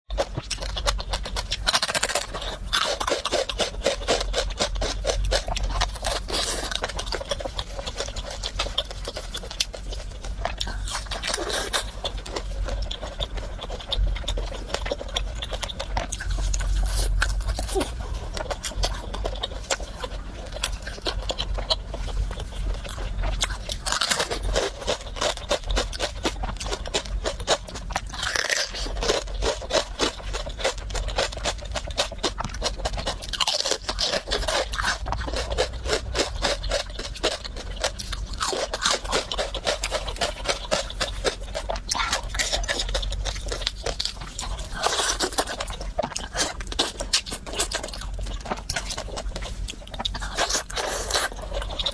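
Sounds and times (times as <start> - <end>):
crunching and chewing: 0.1 - 51.9.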